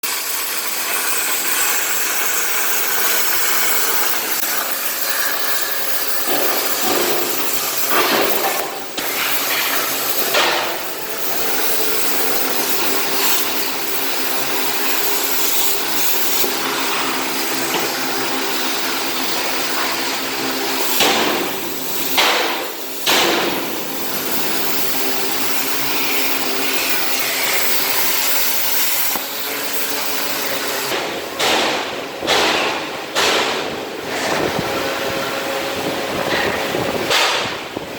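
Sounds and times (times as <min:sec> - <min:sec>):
plasma cutter hissing: 0:00.0 - 0:33.7.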